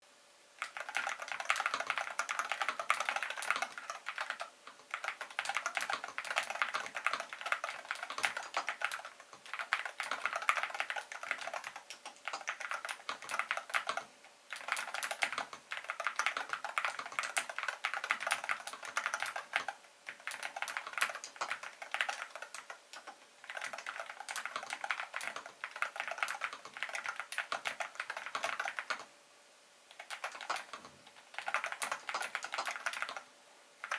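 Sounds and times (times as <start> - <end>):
keyboard typing fast: 0.6 - 29.1, 29.9 - 33.9.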